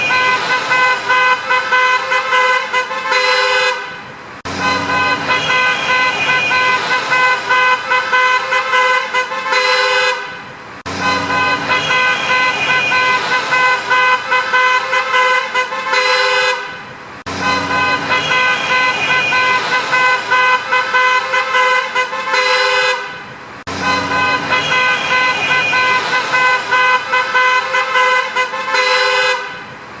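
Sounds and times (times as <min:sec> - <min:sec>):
car horns honking: 0:00.0 - 0:29.8
road traffic hiss: 0:00.0 - 0:30.0.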